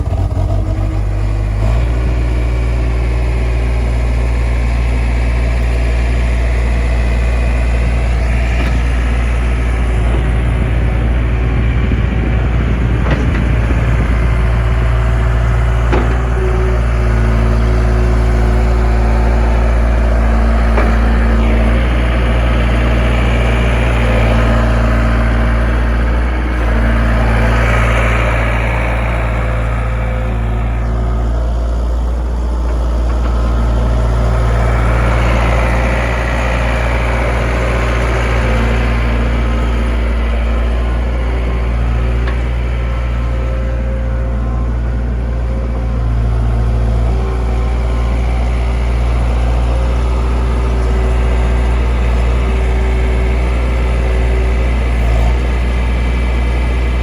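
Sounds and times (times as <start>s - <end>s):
diesel engine running: 0.0s - 57.0s
steady tone stepping down: 0.0s - 57.0s.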